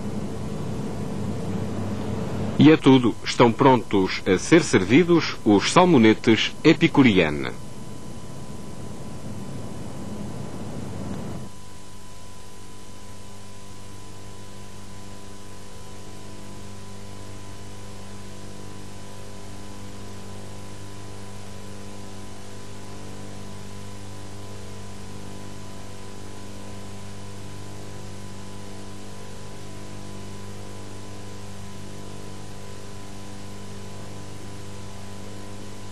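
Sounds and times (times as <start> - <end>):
electrical mains hum: 0.0 - 35.9.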